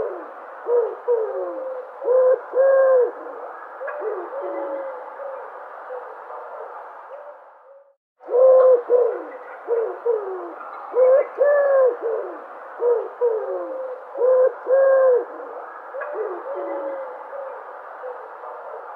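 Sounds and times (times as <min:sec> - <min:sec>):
dove cooing: 0:00.0 - 0:18.9.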